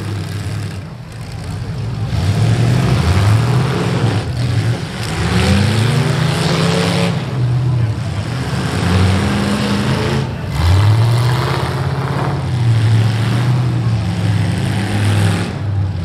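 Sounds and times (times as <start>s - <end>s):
car engines revving hard: 0.0s - 16.0s.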